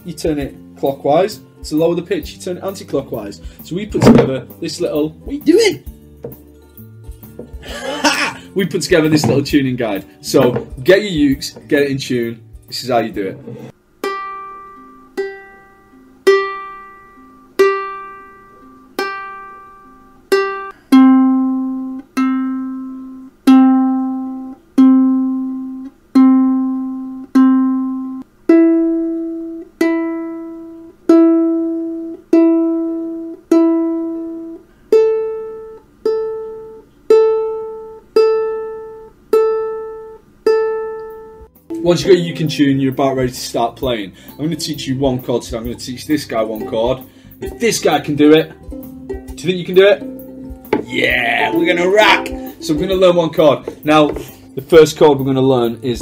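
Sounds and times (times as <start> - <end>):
ukulele strings plucked: 3.9 - 56.0.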